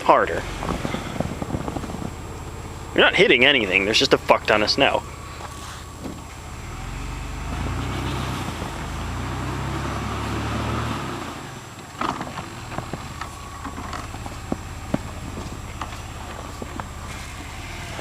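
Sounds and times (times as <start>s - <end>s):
car engine revving: 0.0s - 18.0s
wheel spinning in snow: 0.0s - 18.0s.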